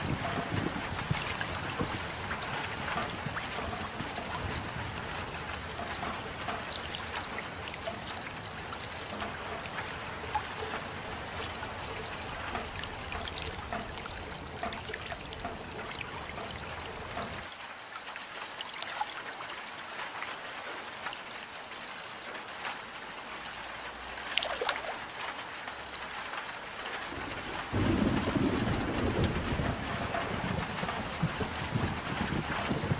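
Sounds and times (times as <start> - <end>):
rain patter: 0.0 - 32.9
water trickling: 0.0 - 32.9.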